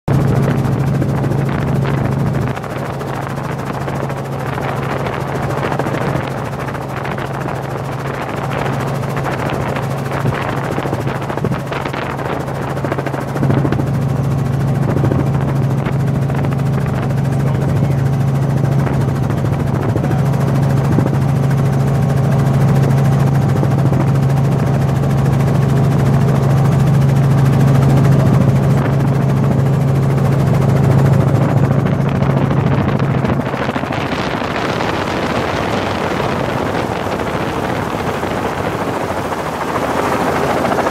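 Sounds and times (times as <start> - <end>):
broad rushing noise: 0.1 - 40.9
helicopter engine and rotor drone: 0.1 - 40.9.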